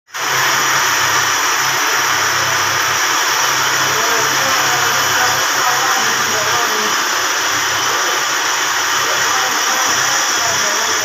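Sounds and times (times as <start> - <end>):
grinding machine hissing: 0.1 - 11.0.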